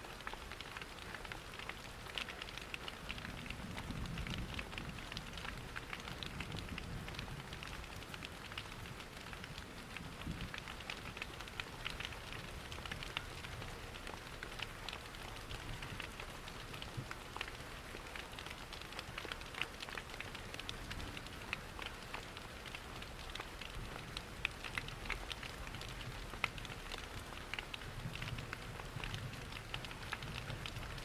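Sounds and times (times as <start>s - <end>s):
steady rain: 0.0s - 31.0s
wood fire crackling: 0.1s - 31.0s.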